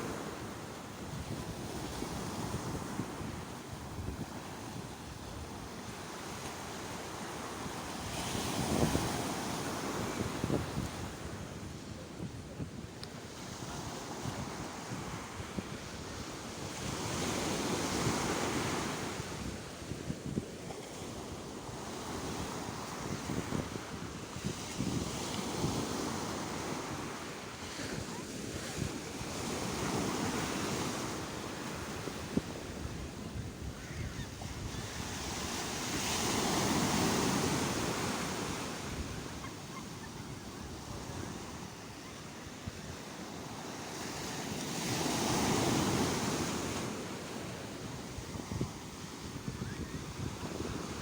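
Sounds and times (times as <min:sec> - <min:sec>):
sea waves breaking on shore: 0:00.0 - 0:51.0.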